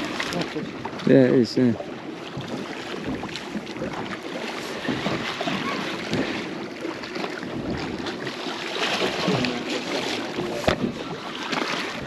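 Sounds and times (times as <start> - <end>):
water around a boat: 0.0 - 12.0.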